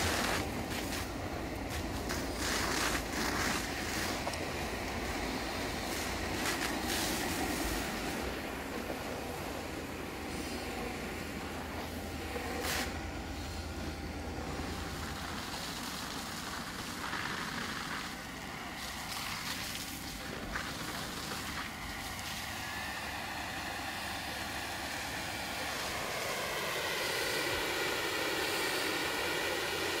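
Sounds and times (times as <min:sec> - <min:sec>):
motor vehicle running: 0:00.0 - 0:25.6.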